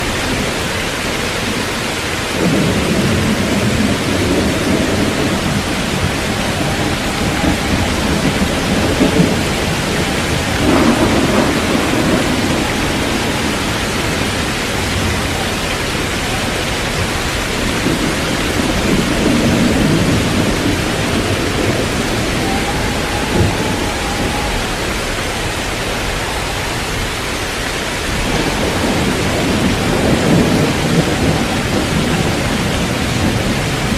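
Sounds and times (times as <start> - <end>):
heavy rain pouring: 0.0 - 33.9
thunder rolling: 0.0 - 33.9
sharp thunderclap: 2.3 - 25.2, 28.0 - 33.9.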